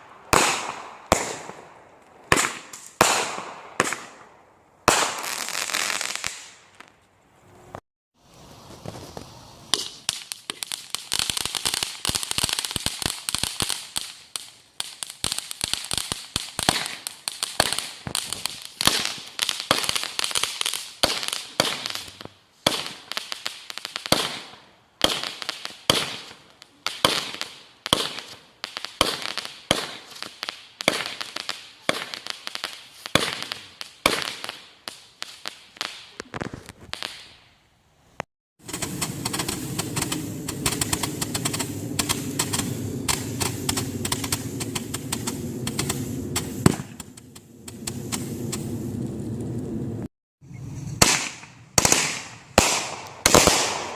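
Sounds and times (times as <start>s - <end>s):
fireworks crackling and popping: 0.0s - 37.6s, 38.2s - 50.1s, 50.9s - 53.9s.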